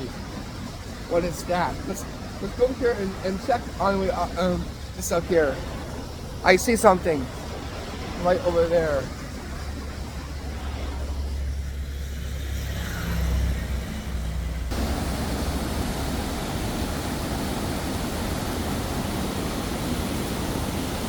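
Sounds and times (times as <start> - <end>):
waterfall rushing: 0.0 - 11.4, 14.7 - 21.0.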